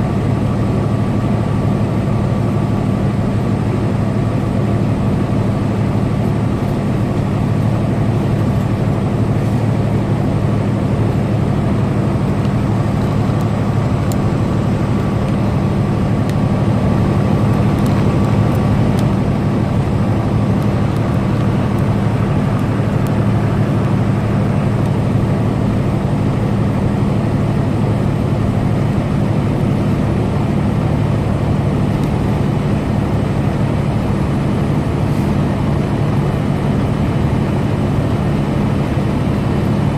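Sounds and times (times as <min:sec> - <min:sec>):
truck engine drone: 0:00.0 - 0:39.9
tyre and road noise: 0:00.0 - 0:39.9.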